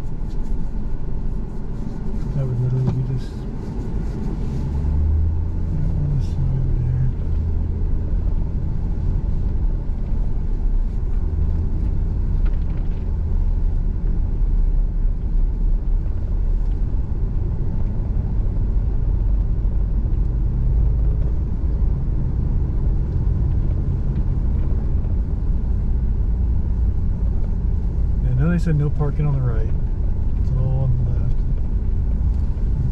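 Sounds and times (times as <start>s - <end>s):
vehicle engine and road noise: 0.0s - 32.9s.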